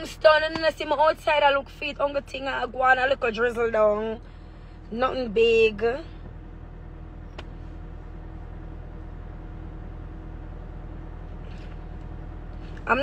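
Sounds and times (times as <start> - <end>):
car cabin low rumble: 0.0 - 13.0.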